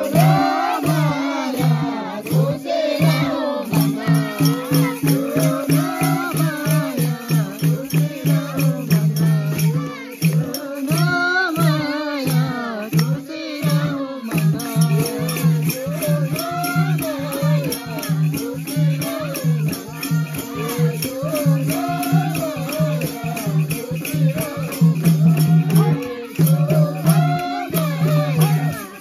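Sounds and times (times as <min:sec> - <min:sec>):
person singing a melody: 0:00.0 - 0:29.0
rattling shaker rhythm: 0:00.0 - 0:29.0.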